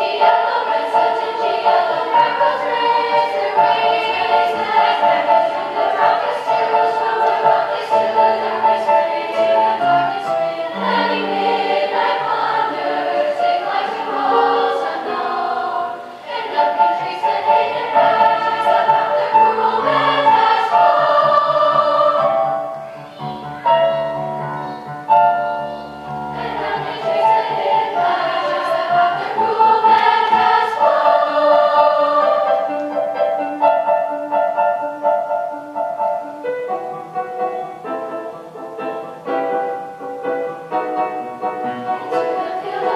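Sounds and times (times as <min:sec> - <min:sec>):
choir singing: 0:00.0 - 0:34.9, 0:37.1 - 0:42.9.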